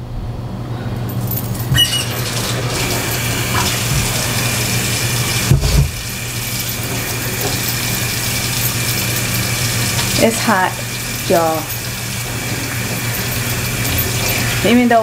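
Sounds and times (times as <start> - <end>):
tap water pouring: 1.5 - 14.7
hands washing under water: 1.5 - 15.0.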